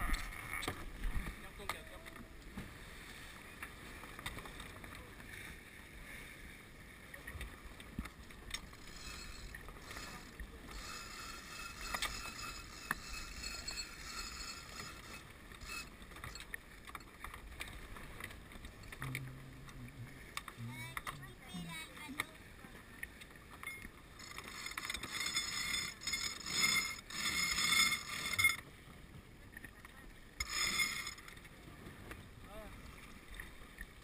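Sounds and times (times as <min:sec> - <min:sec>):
water rushing along hull: 0:00.0 - 0:34.0.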